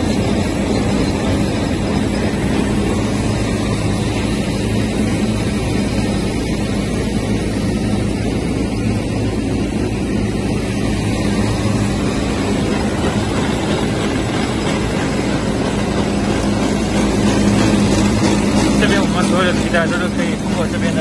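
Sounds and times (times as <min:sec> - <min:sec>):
conveyor machine drone: 0:00.0 - 0:21.0
low hum: 0:00.0 - 0:21.0.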